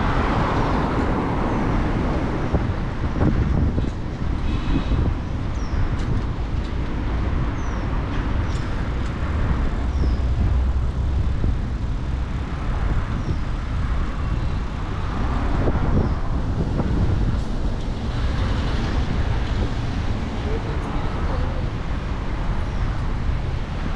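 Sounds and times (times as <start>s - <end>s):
car traffic: 0.0s - 23.9s
tyres rumbling: 0.0s - 23.9s
wind on microphone: 0.0s - 23.9s.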